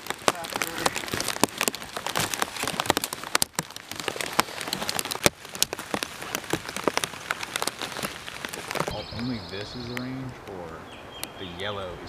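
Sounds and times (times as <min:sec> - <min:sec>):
rain hiss: 0:00.0 - 0:12.0
raindrops hitting a tarp: 0:00.0 - 0:12.0.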